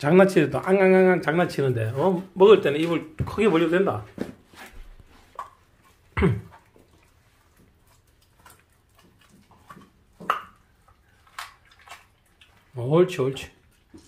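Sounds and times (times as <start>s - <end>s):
dog chewing meat and bone: 2.2s - 14.0s.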